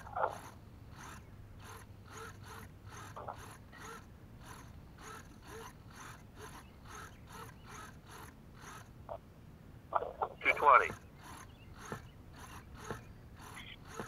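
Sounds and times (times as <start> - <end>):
servos whirring: 0.0 - 9.3, 10.0 - 14.0.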